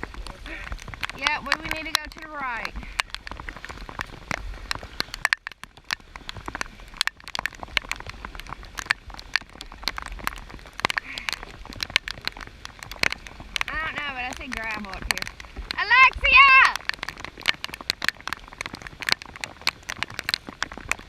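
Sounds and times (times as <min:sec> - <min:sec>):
rain falling on river: 0:00.0 - 0:21.0
raindrops ticking near microphone: 0:00.0 - 0:21.0.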